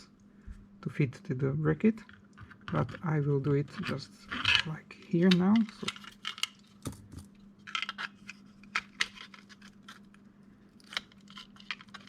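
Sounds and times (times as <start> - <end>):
faint steady hum: 0.0 - 12.0
plastic parts clicking and scraping: 2.0 - 12.0.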